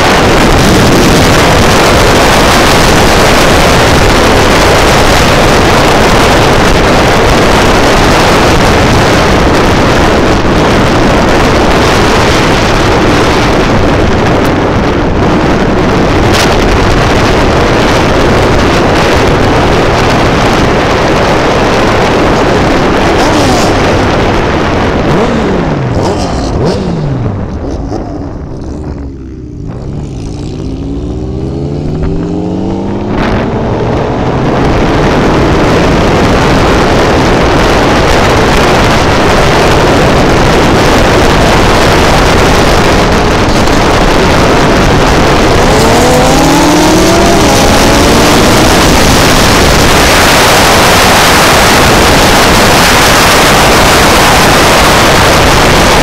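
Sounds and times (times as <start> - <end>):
motorcycle engine running: 0.0 - 56.0
wind rush over microphone: 0.0 - 56.0.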